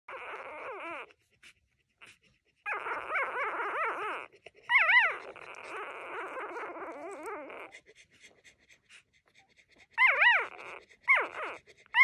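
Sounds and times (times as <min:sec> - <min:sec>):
puppy whining: 0:00.0 - 0:12.0.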